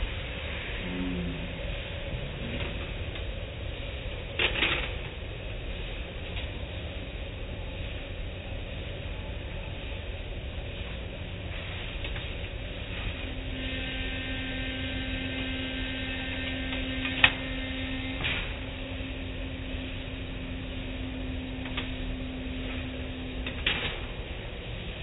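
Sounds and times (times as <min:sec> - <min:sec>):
car wash motor hum: 0:00.0 - 0:25.0.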